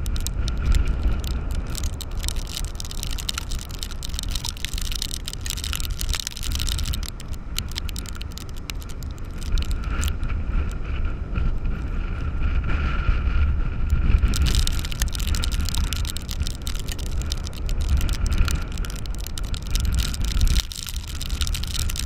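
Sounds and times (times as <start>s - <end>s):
sharp ticks against camera: 0.0s - 10.8s, 13.9s - 22.0s
large surf: 0.0s - 22.0s
wind buffeting microphone: 0.0s - 22.0s.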